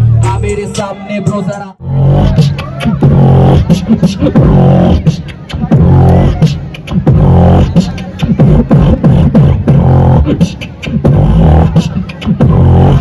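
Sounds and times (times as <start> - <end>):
rap music with heavy bass: 0.0 - 13.0.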